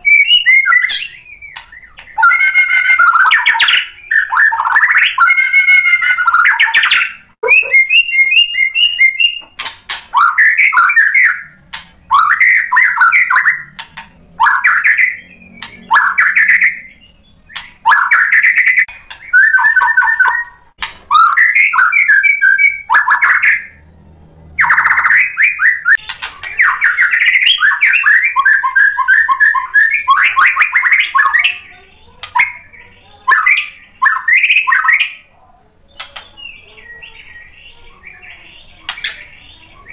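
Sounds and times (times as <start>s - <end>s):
bird singing whistled phrases: 0.0s - 9.6s, 10.2s - 13.8s, 14.4s - 23.8s, 24.6s - 35.2s.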